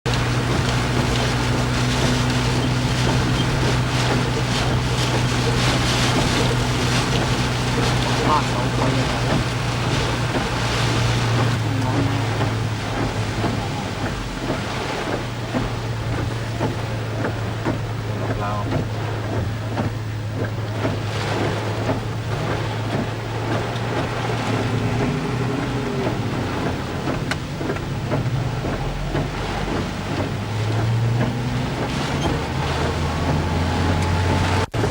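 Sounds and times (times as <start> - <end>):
low engine hum: 0.0 - 34.9
sea surging: 0.0 - 34.9
wind and rain rushing: 0.0 - 34.9.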